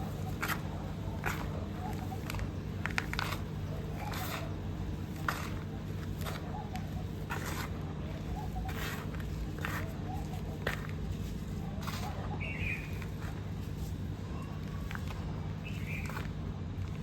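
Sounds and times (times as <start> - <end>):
crunching of baked clay chewed: 0.0 - 17.0
steady low hum: 0.0 - 17.0.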